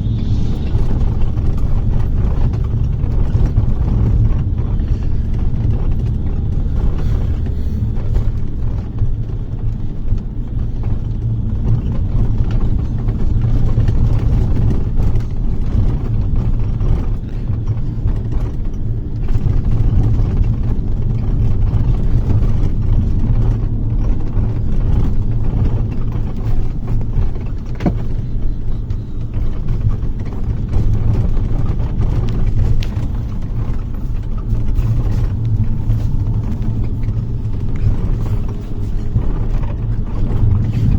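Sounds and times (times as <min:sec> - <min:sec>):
bus engine rumble: 0:00.0 - 0:40.9
faint rattles and clicks: 0:00.0 - 0:40.9.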